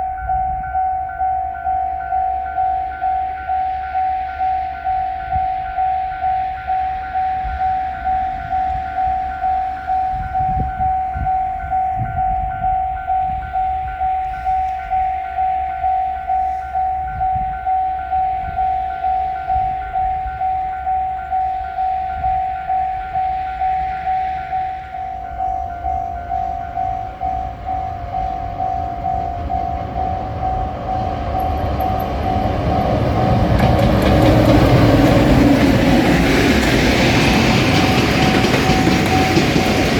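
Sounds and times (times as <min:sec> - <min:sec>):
railroad crossing alarm bell: 0:00.0 - 0:39.9.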